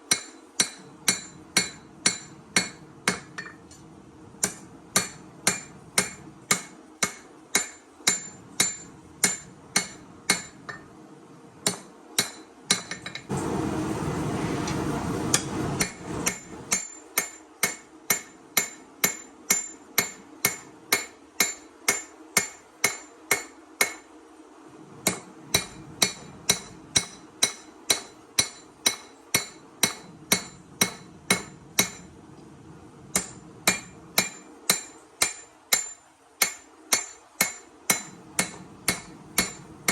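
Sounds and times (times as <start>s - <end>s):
hammer striking steel on anvil: 0.1s - 3.8s, 4.4s - 10.9s, 11.6s - 13.3s, 15.3s - 24.1s, 25.1s - 32.1s, 33.1s - 39.9s.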